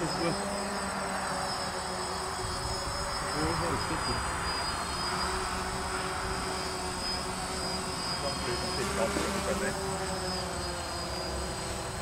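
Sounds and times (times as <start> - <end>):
drone propellers buzzing: 0.0 - 12.0
high motor whine: 0.0 - 12.0.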